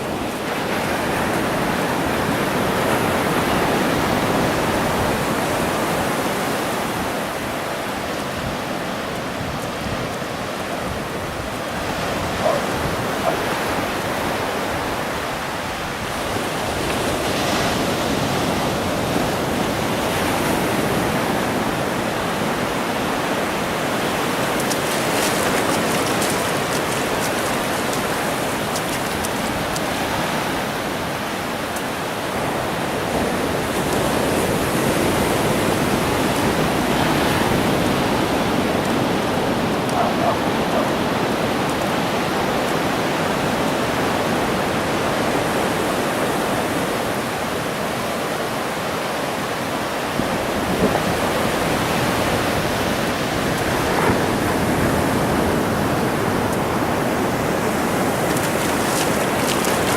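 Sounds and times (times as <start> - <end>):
ocean surf breaking on beach: 0.0 - 59.9.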